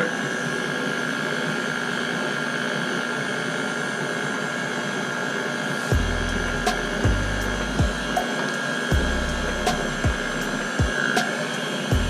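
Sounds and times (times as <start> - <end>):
electric mixer beating batter: 0.0 - 12.0.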